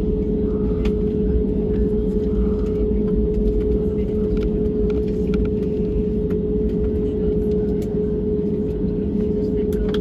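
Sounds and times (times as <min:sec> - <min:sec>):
jet engines idling in cabin: 0:00.0 - 0:10.0.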